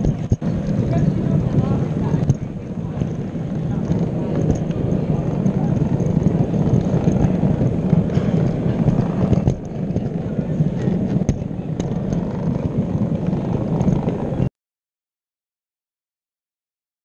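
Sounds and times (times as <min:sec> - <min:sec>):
model train rumble: 0:00.0 - 0:14.4
sharp track clicks: 0:00.0 - 0:14.4.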